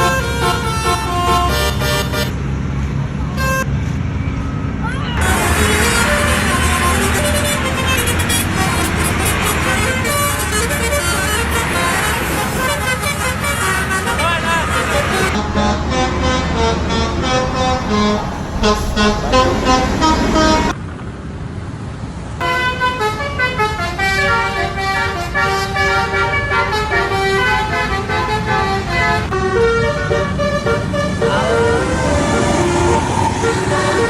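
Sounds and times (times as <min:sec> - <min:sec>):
bus horn melody: 0:00.0 - 0:03.8, 0:05.2 - 0:20.8, 0:22.4 - 0:34.0
road and engine noise: 0:00.0 - 0:34.0.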